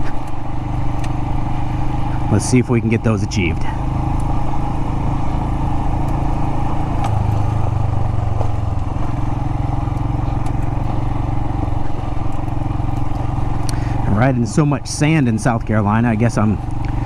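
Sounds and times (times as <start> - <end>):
gravel clicking under tyres: 0.0 - 17.0
motorcycle engine running: 0.0 - 17.0.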